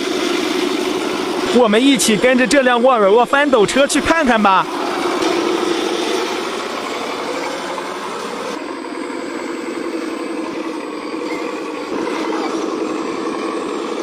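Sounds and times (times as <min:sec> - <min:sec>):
model truck motor drone: 0:00.0 - 0:14.0.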